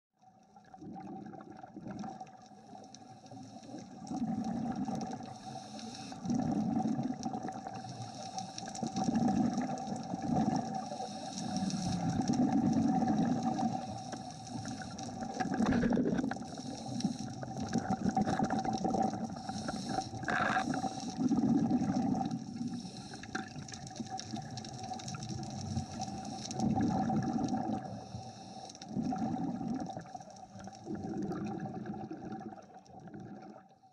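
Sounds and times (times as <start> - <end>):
underwater water rushing and gurgling: 0.4 - 33.8.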